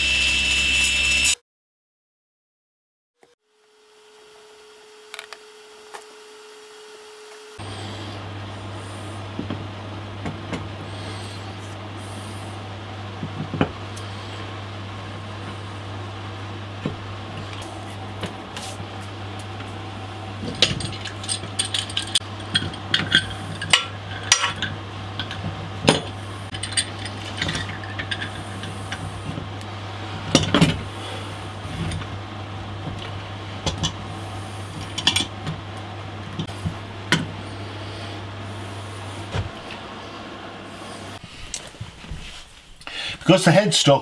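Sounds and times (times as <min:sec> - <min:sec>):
low steady hum: 0:07.6 - 0:44.0.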